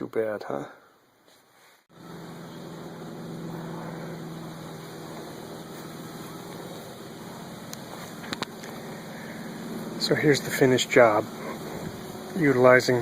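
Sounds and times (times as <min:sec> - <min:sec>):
low machine hum: 0:01.9 - 0:13.0.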